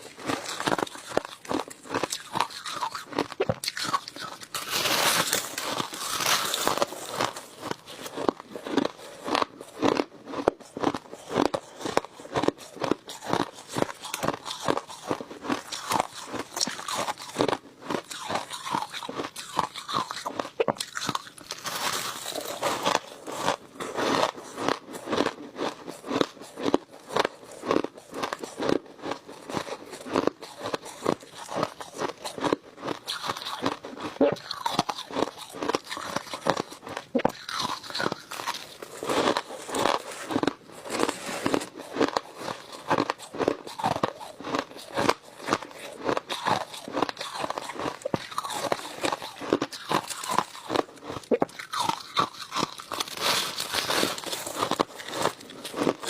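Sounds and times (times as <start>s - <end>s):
crushed ice being chewed: 0.0s - 56.0s.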